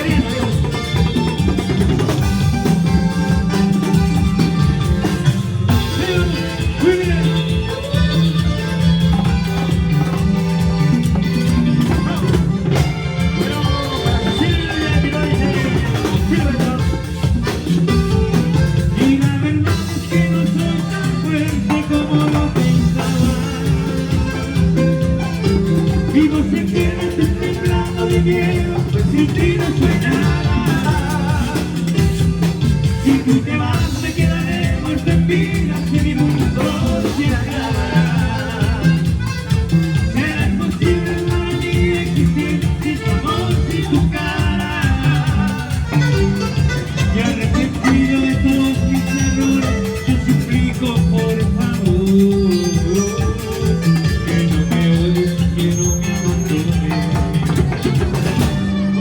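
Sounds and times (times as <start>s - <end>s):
band playing latin dance music: 0.0s - 59.0s
person singing: 4.9s - 58.6s.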